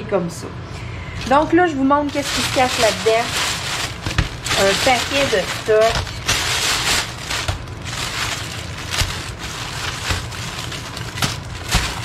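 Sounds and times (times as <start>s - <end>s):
plastic packaging crinkling: 1.2s - 12.0s.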